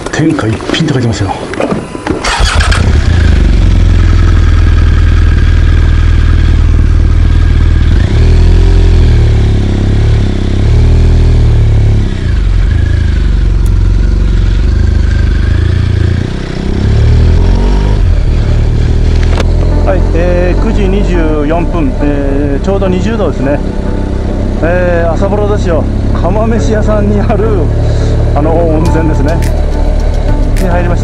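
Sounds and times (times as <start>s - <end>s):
motorcycle engine revving: 2.0s - 31.0s.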